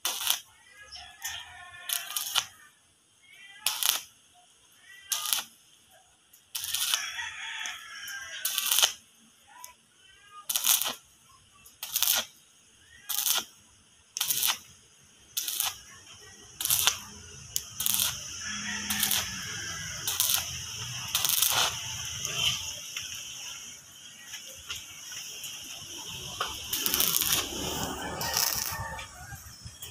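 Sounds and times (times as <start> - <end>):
arc welding crackle: 0.0 - 29.9.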